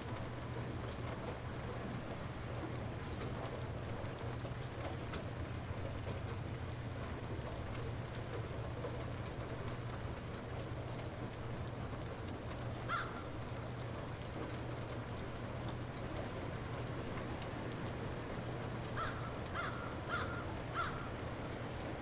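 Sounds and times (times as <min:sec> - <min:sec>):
light rain falling: 0:00.0 - 0:22.0
small drips: 0:00.1 - 0:22.0.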